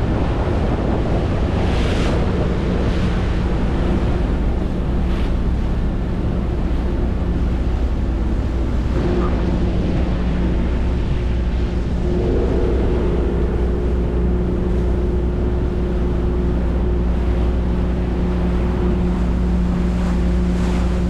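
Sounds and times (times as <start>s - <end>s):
ferry engine droning: 0.0s - 21.0s
wind and water rushing: 0.0s - 21.0s.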